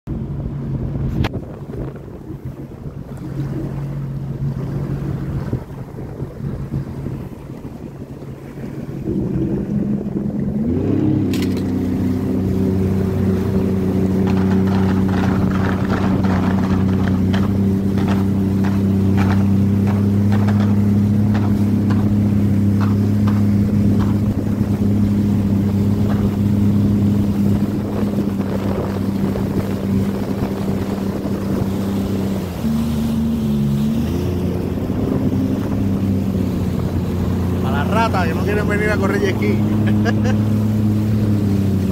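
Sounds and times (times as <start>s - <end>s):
personal watercraft engine: 0.1s - 41.9s
water splashing against hull: 0.1s - 41.9s.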